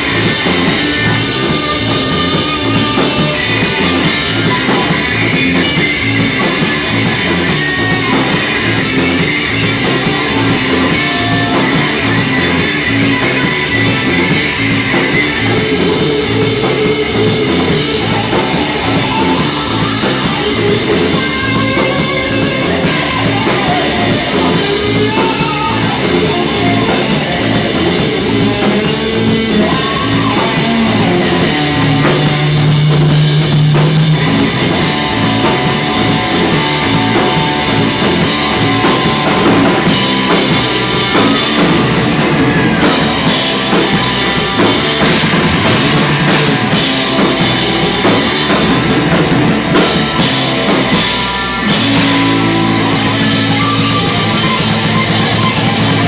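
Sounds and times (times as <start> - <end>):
bass and drum groove: 0.0 - 56.0
electric guitar lines: 0.0 - 56.0.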